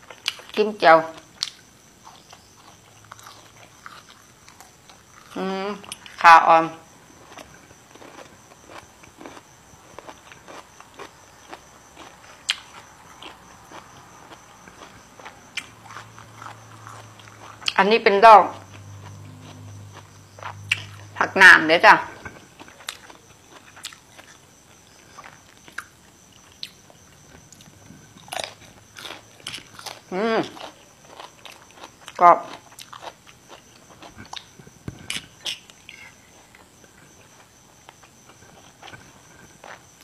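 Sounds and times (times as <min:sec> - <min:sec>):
person chewing food: 0:00.0 - 0:06.2, 0:07.1 - 0:17.8, 0:18.5 - 0:21.2, 0:22.1 - 0:40.0.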